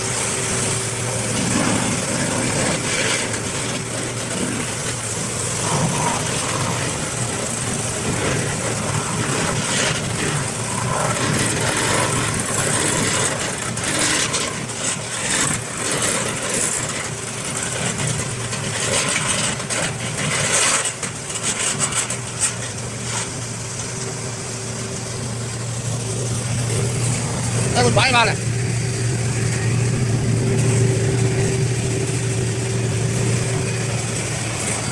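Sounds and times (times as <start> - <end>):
wood shredder motor drone: 0.0 - 34.9.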